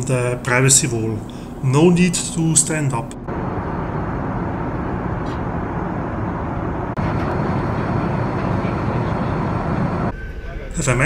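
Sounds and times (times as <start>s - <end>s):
airplane cabin engine drone: 0.0s - 10.3s.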